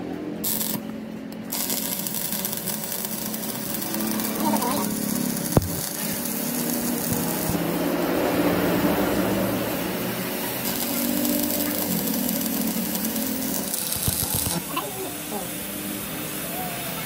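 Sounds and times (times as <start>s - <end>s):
arc welding crackling hiss: 0.4s - 17.0s
motor turning shaft: 0.4s - 17.0s.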